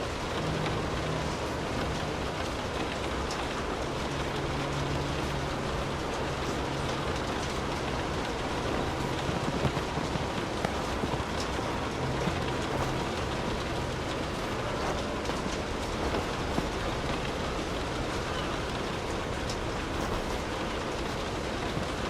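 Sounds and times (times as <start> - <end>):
faint low hum: 0.0 - 22.0
rain falling: 0.0 - 22.0.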